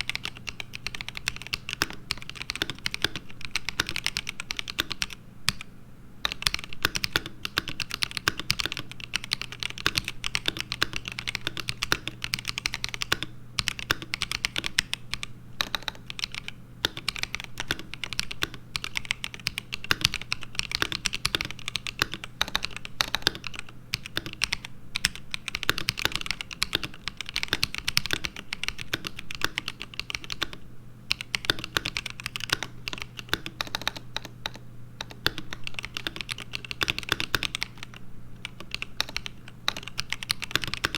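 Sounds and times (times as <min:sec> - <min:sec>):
faint steady hum: 0:00.0 - 0:40.9
mechanical keyboard typing: 0:00.0 - 0:40.9.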